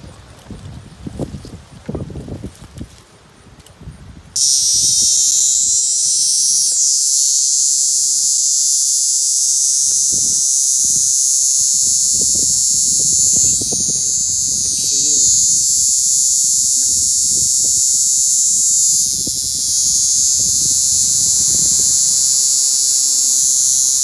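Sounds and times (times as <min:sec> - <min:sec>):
cicada buzzing: 0:04.4 - 0:24.0.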